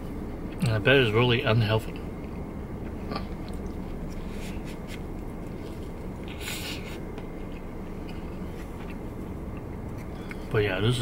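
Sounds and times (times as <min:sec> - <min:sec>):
low rumble inside a car: 0:00.0 - 0:11.0.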